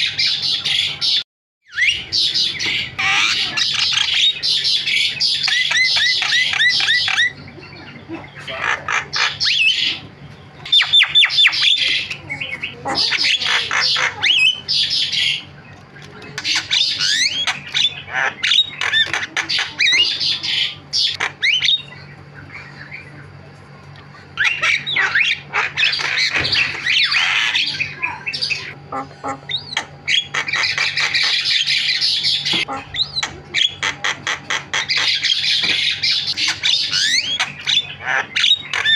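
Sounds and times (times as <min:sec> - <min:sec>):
myna bird singing: 0:00.0 - 0:38.9.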